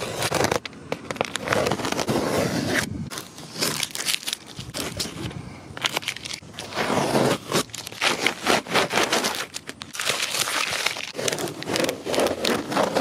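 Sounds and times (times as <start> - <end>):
tape peeling and crinkling: 0.0 - 13.0.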